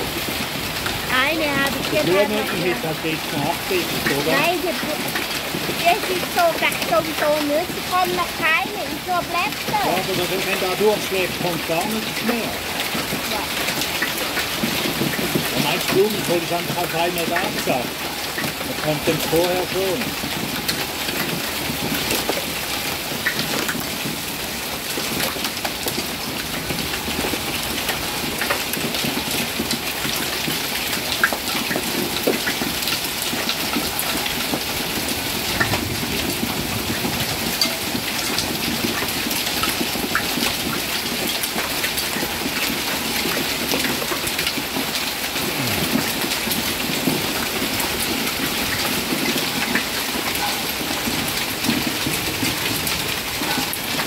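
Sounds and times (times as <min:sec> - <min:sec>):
hailstones pelting down: 0:00.0 - 0:54.0.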